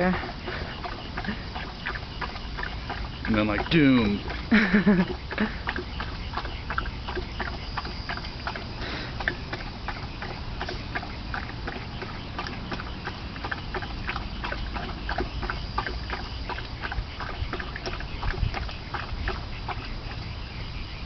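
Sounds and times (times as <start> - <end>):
dog lapping water: 0.0 - 21.0.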